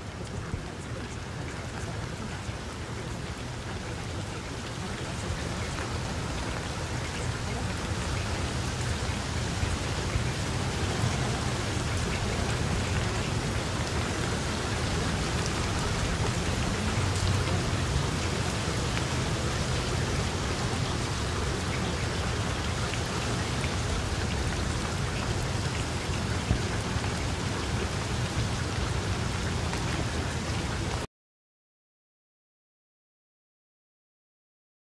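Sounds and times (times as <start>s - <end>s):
steady rain falling: 0.0s - 31.1s.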